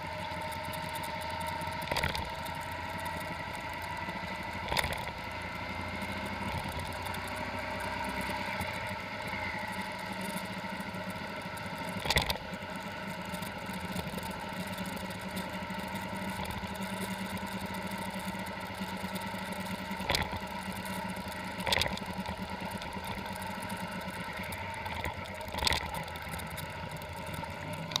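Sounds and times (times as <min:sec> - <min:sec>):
motorcycle engine running: 0:00.0 - 0:28.0
steady whine: 0:00.0 - 0:28.0.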